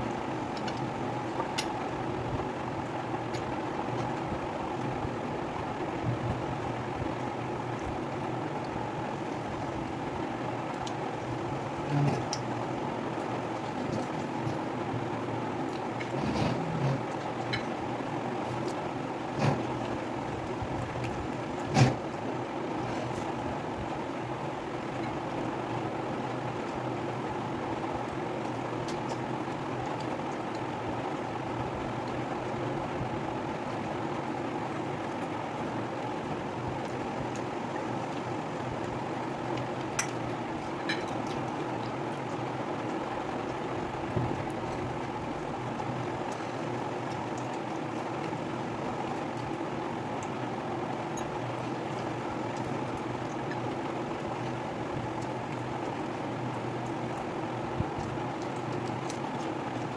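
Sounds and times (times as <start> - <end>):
steady appliance hum: 0.0 - 59.9.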